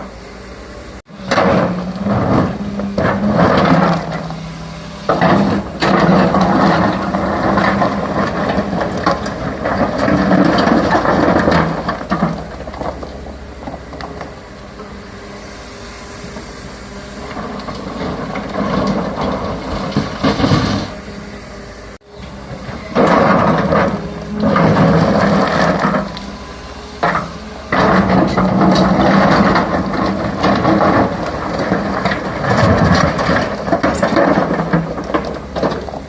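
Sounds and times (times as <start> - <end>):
excavator diesel engine: 0.0 - 36.0
rock and metal clattering scraping: 1.1 - 14.4, 17.0 - 21.0, 22.3 - 36.0.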